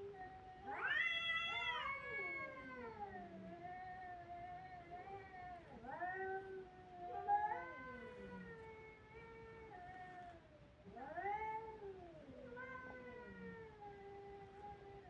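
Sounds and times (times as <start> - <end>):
cats caterwauling: 0.0 - 15.0.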